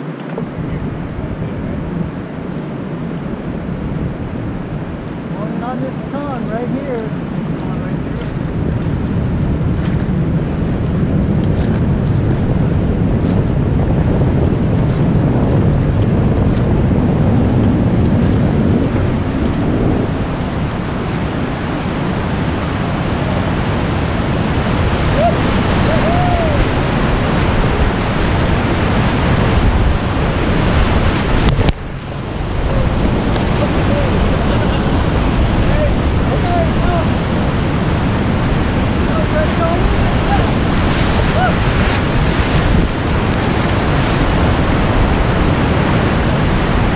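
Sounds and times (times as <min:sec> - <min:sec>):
whitewater rapids roaring: 0:00.0 - 0:46.9
wind buffeting microphone: 0:00.0 - 0:46.9.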